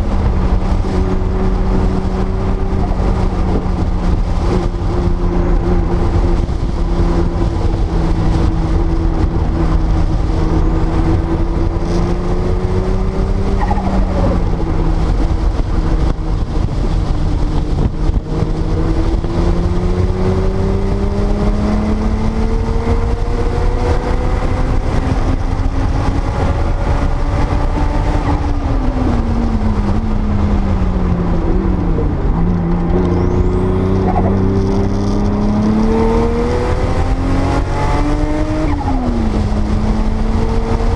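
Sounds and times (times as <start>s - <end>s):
car engine pulling through gears: 0.0s - 40.9s
wind and road noise rumble: 0.0s - 40.9s.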